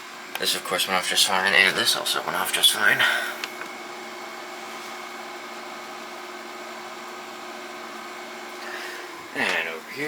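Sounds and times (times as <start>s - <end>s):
faint hum tones: 0.0s - 10.0s.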